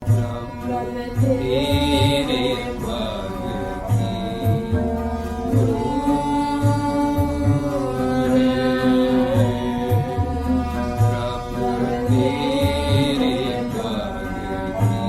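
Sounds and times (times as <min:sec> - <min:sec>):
steady drone: 0:00.0 - 0:15.0.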